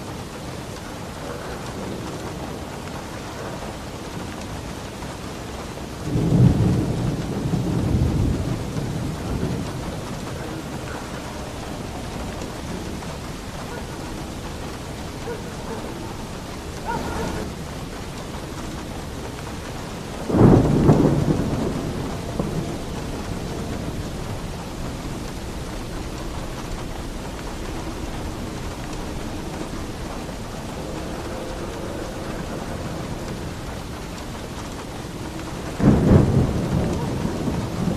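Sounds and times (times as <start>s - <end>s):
heavy rain on a roof: 0.0s - 37.9s
thunder clap and rumble: 0.0s - 37.9s.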